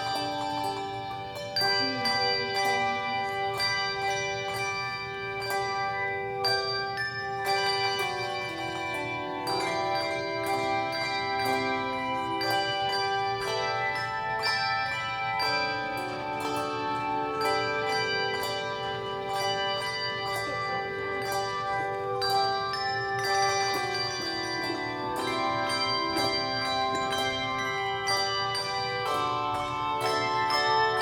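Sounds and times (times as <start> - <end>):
handbell choir playing: 0.0 - 31.0.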